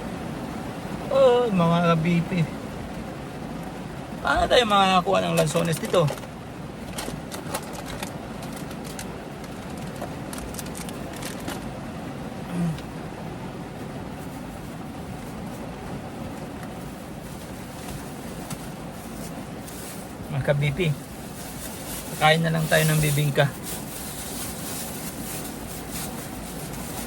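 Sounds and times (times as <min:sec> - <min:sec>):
steady rain: 0:00.2 - 0:27.0.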